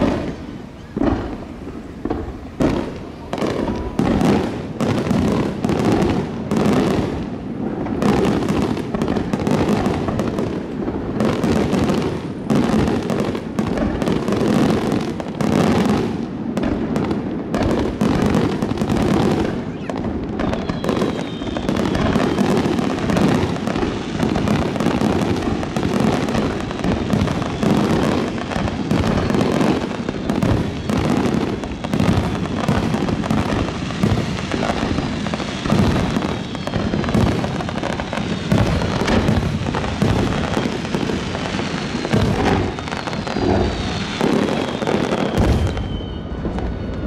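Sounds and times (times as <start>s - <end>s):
fireworks bursting and crackling: 0.0s - 47.0s.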